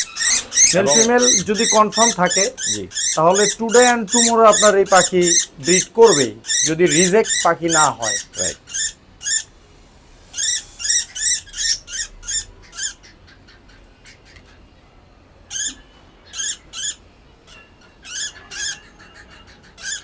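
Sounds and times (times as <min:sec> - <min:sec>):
bird squawking: 0:00.0 - 0:09.5, 0:10.4 - 0:14.6, 0:15.5 - 0:20.0.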